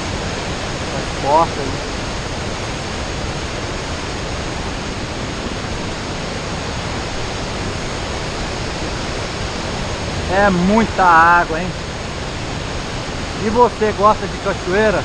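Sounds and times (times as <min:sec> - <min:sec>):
waterfall and river rushing: 0:00.0 - 0:15.0.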